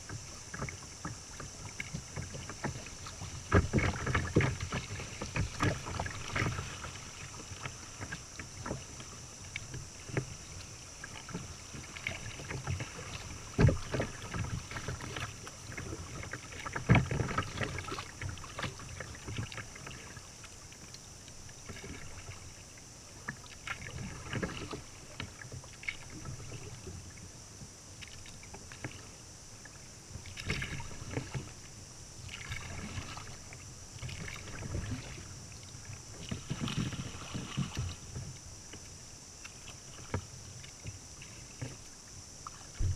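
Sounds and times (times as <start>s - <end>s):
paddle splashes: 0.0s - 42.9s
water lapping against hull: 0.0s - 42.9s.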